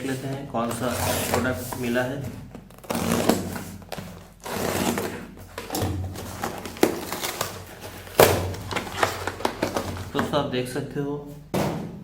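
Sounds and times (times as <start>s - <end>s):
packaging rustling and scraping: 0.0s - 10.4s.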